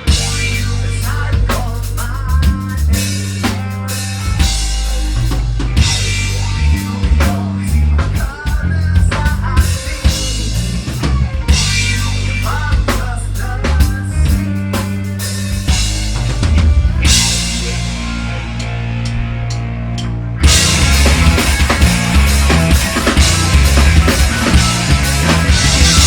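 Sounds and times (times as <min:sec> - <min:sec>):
drum kit pounding: 0:00.0 - 0:26.0
metal band playing live: 0:00.0 - 0:26.0.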